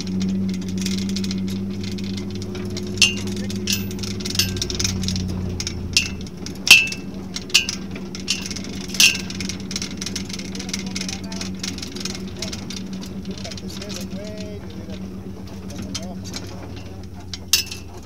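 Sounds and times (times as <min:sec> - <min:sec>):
sharp metallic clanks and rattles: 0:00.0 - 0:18.0
vehicle engine running: 0:00.0 - 0:18.0.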